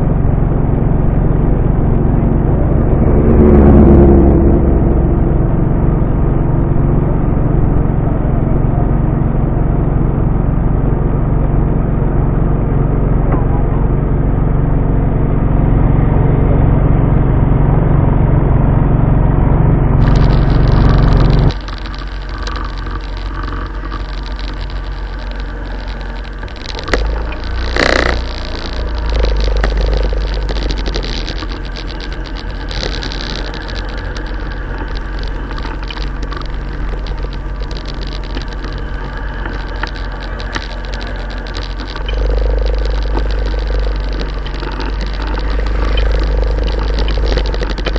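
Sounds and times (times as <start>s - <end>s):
motorcycle engine running: 0.0s - 47.9s
wind rumble on microphone: 0.0s - 47.9s.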